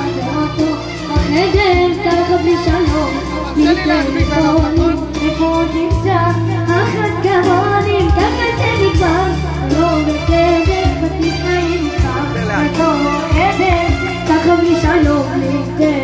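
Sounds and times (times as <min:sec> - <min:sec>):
boy singing into a microphone: 0:00.0 - 0:16.0
electronic keyboard: 0:00.0 - 0:16.0
steady drum beat: 0:00.0 - 0:16.0.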